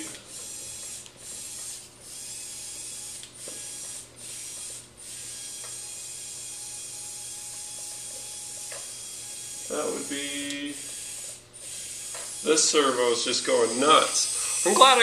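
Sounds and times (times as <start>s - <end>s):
servo buzzing and chattering: 0.0s - 15.0s.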